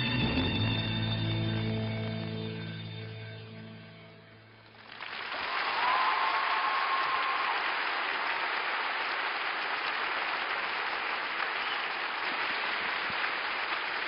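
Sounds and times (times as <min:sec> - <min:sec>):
crowd applauding: 0:00.4 - 0:03.1, 0:04.6 - 0:14.0.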